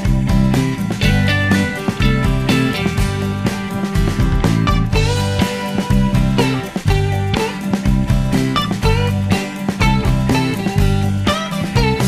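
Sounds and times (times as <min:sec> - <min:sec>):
plucked guitar notes: 0:00.0 - 0:12.0
repeating bass line: 0:00.0 - 0:12.0.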